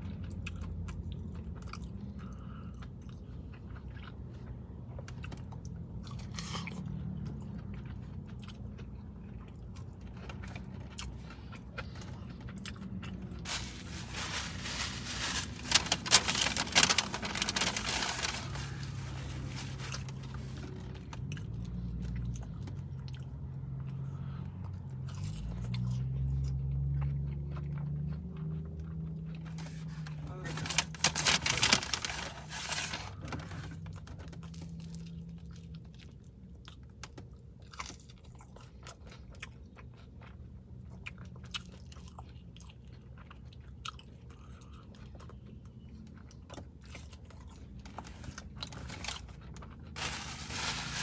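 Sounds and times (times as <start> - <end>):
chewing crunchy food: 0.0 - 31.0, 31.6 - 51.0.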